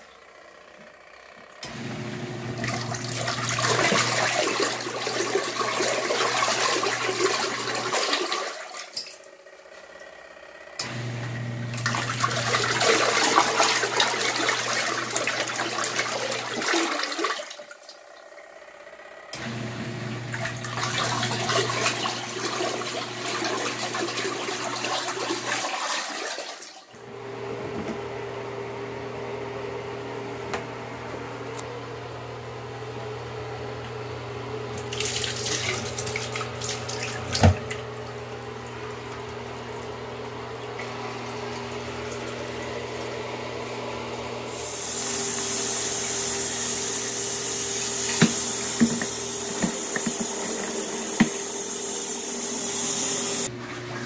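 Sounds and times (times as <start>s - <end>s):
washing machine churning water: 0.0s - 54.0s.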